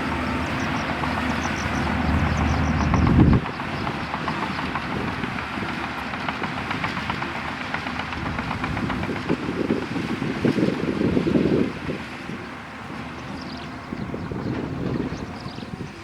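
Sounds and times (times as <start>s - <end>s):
bulldozer diesel engine: 0.0s - 16.0s
steel tracks clanking: 0.0s - 16.0s.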